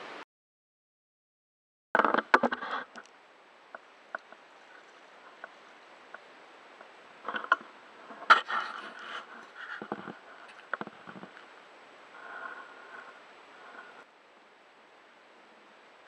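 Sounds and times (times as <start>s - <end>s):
water lapping: 2.5s - 16.0s.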